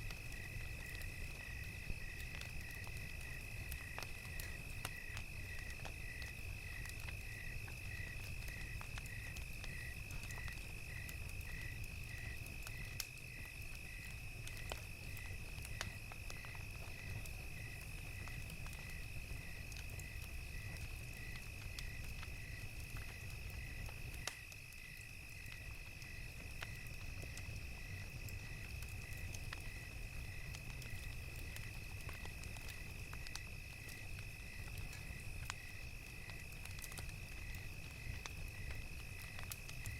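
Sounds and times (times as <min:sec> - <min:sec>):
campfire crackling: 0:00.0 - 0:39.9
crickets chirping: 0:00.1 - 0:39.9.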